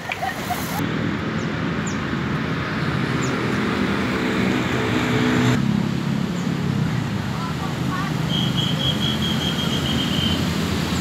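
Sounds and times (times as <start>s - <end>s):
road noise: 0.0s - 11.0s
vehicle engine humming: 0.8s - 11.0s.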